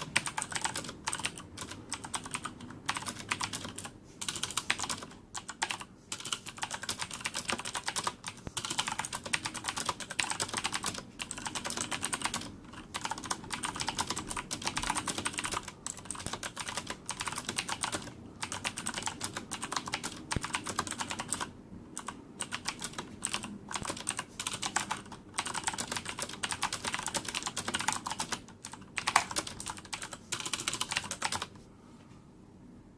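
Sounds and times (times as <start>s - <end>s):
clicky mechanical keyboard typing: 0.0s - 31.6s.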